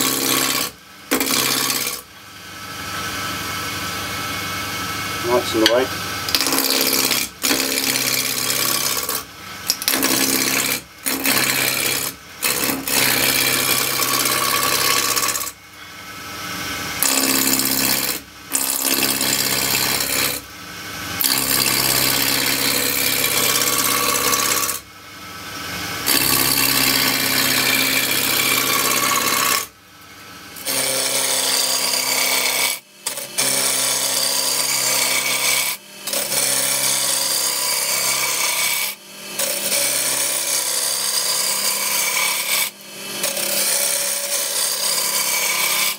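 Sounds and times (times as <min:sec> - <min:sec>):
gouge cutting wood on lathe: 0:00.0 - 0:02.0, 0:05.2 - 0:15.6, 0:16.9 - 0:20.4, 0:21.2 - 0:24.8, 0:26.0 - 0:29.7, 0:30.6 - 0:45.9.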